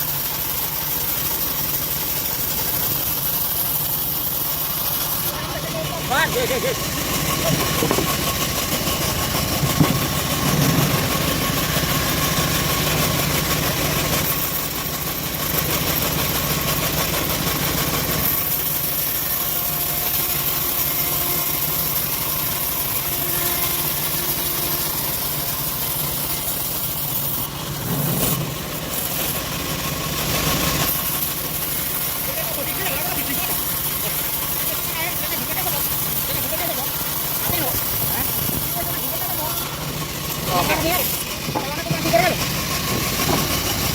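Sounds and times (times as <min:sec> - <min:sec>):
bandsaw sawmill running: 0:00.0 - 0:43.9.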